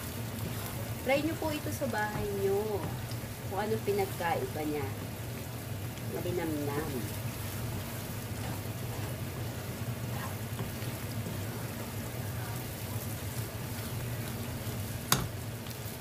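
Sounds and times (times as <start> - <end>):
food sizzling in a frying pan: 0.0 - 16.0
wooden spatula stirring: 0.0 - 16.0.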